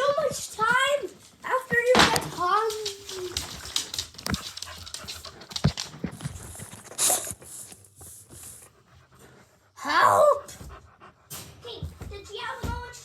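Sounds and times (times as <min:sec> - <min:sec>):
dog panting: 0:01.4 - 0:13.0.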